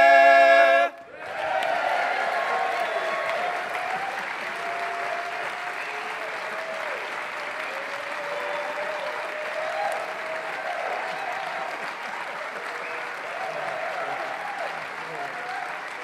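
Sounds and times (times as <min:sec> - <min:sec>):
audience applauding: 0:00.0 - 0:16.0
cheering: 0:00.0 - 0:16.0.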